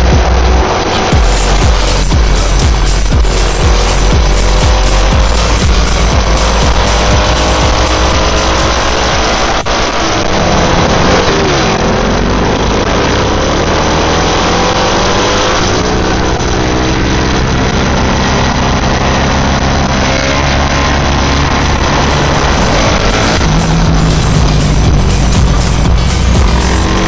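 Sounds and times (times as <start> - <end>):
motorcycle engines running hard: 0.0 - 27.0.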